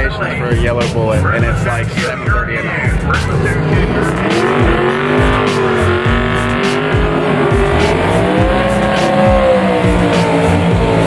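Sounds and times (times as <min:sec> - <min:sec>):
music with drum beat: 0:00.0 - 0:11.0
race car droning: 0:00.0 - 0:11.0.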